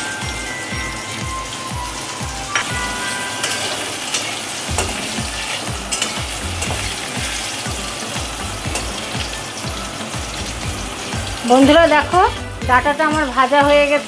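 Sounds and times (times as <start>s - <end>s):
vegetable pieces sizzling in oil: 0.0s - 14.0s.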